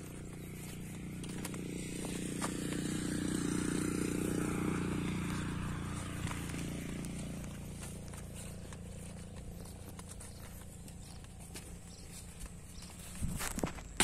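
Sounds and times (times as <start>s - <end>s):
small engine droning: 0.0s - 14.0s.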